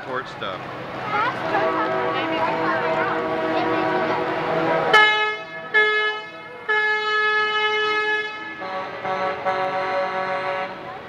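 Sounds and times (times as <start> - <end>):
truck horn honking: 1.1 - 11.0.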